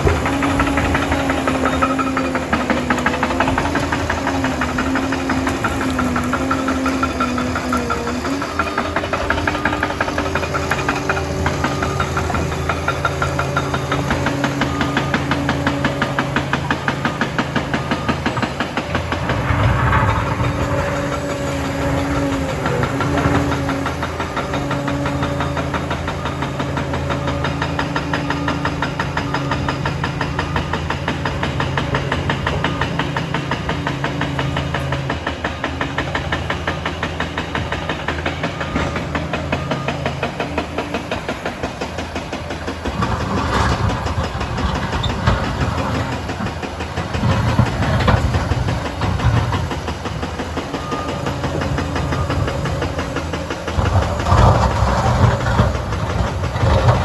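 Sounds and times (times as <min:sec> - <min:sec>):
dozer diesel engine running: 0:00.0 - 0:57.0.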